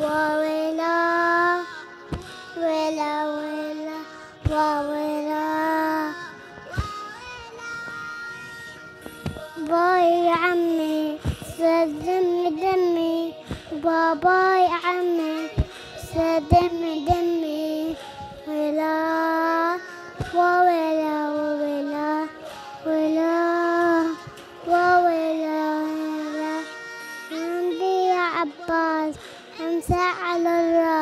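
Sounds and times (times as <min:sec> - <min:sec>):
boy singing: 0:00.0 - 0:31.0.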